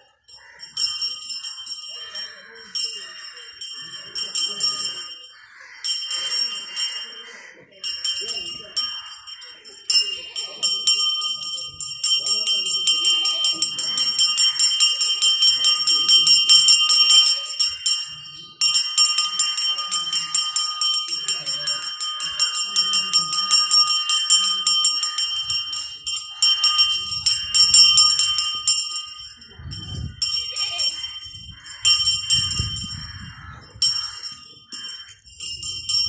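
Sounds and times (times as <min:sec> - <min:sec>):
metal bell ringing rapidly: 0:00.0 - 0:36.0.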